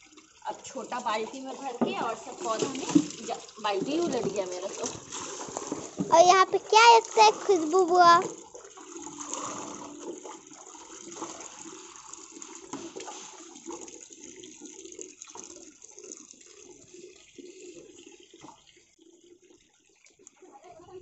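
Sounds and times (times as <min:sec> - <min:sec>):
tap water pouring into bucket: 0:00.0 - 0:21.0.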